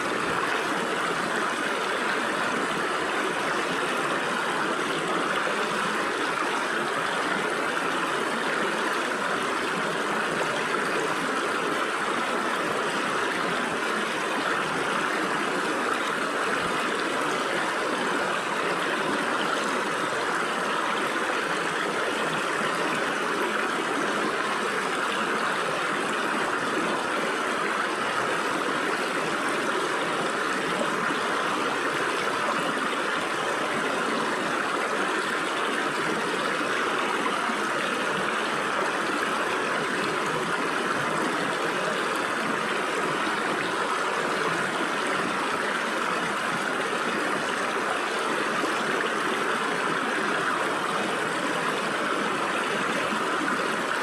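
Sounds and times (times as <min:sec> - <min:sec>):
stream water splashing over rocks: 0:00.0 - 0:54.0.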